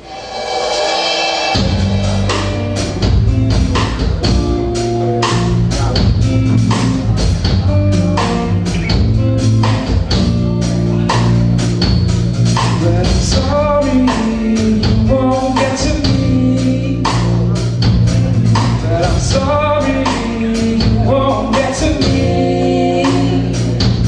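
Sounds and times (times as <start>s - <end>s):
drum kit beat: 0.0s - 24.0s
live band music: 0.0s - 24.0s.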